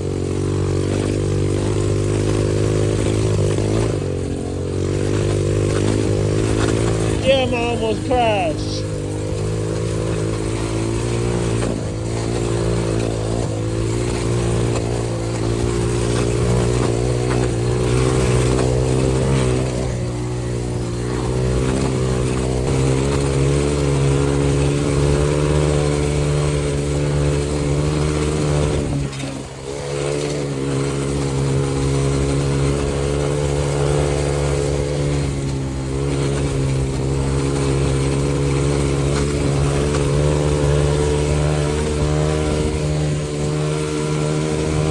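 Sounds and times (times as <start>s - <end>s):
dirt bike engine under throttle: 0.1s - 44.9s.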